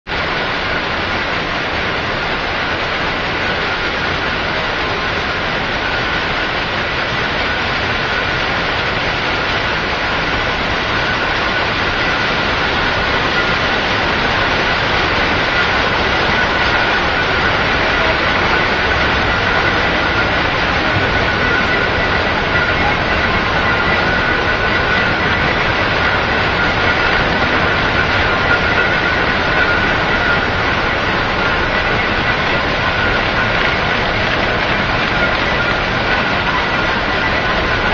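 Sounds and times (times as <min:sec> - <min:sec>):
machine running with mechanical din: 0:00.1 - 0:37.9
steady high machine tones: 0:00.1 - 0:37.9.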